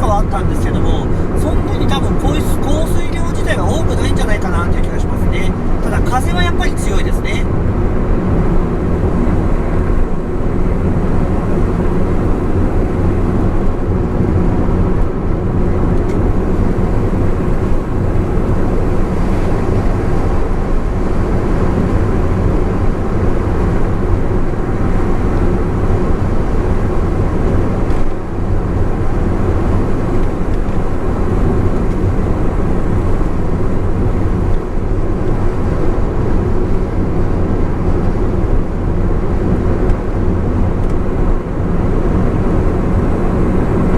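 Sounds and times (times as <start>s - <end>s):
car engine drone: 0.0s - 43.9s
tyre and road noise: 0.0s - 43.9s.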